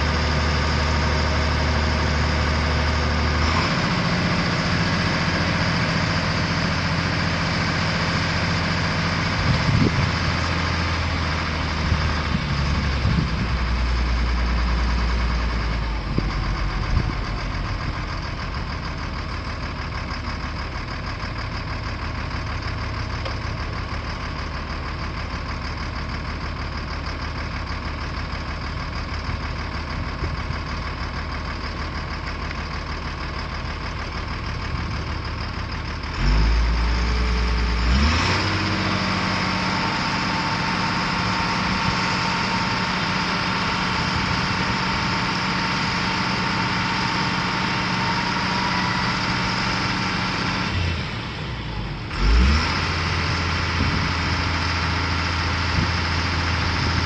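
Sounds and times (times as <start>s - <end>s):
diesel engine idling with clatter: 0.0s - 57.0s.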